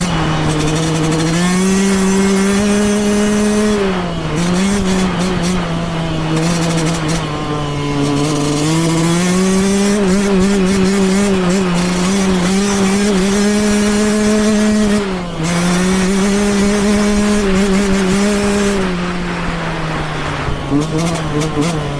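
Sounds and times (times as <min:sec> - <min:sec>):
two-stroke engine revving: 0:00.0 - 0:21.9.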